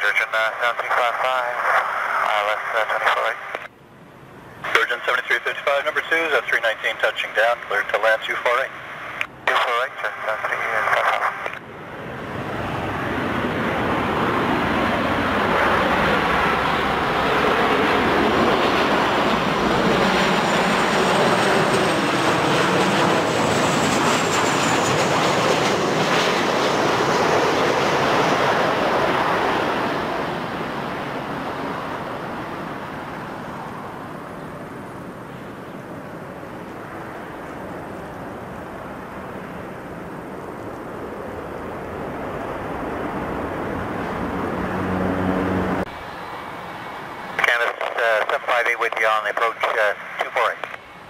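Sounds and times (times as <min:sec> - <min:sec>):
jet flying past: 0:00.0 - 0:03.7, 0:04.6 - 0:51.0
high engine whine: 0:00.0 - 0:51.0.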